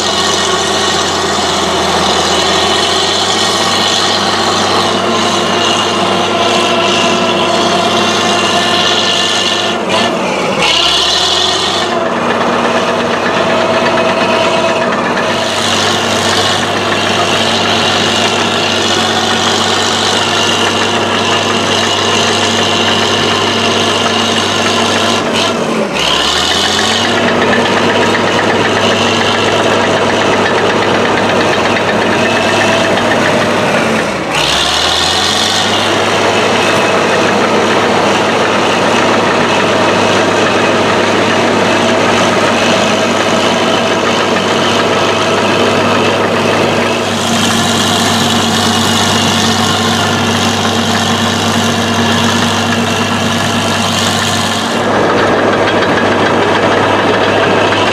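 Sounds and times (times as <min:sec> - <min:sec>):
dozer diesel engine under load: 0:00.0 - 0:57.9.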